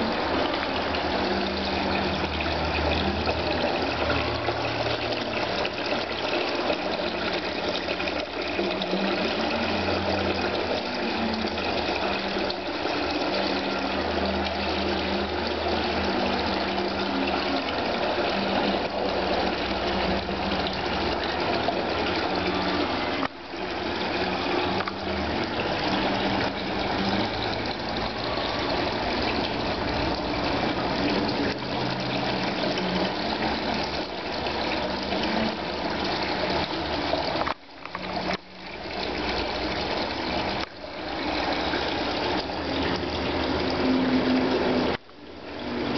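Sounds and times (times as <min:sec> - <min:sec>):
fountain water splashing: 0:00.0 - 0:45.9.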